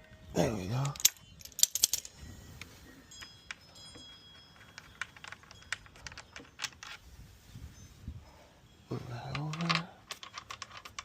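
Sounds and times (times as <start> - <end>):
faint metallic ringing: 0.0 - 10.9.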